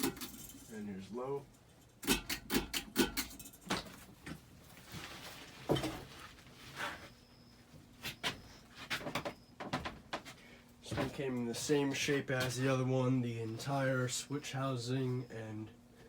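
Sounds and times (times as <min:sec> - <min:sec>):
ceiling fan running: 0:00.0 - 0:16.0
faint hum and high whine: 0:00.0 - 0:16.0.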